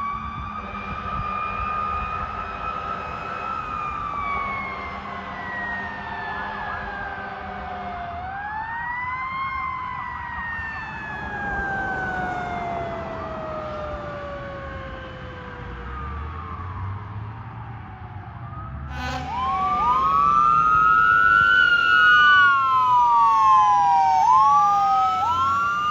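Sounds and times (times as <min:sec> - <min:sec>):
fire siren wailing: 0:00.0 - 0:25.9.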